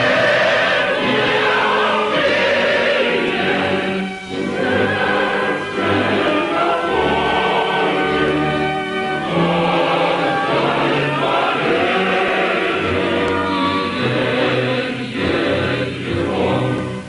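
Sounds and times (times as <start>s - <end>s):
choir singing held chords: 0.0s - 17.0s.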